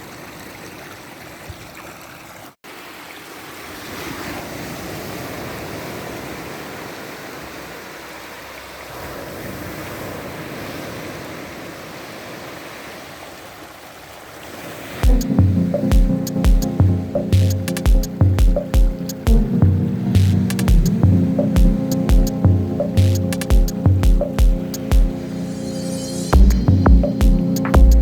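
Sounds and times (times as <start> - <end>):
sea waves breaking on shore: 2.7 - 17.4, 18.0 - 26.3.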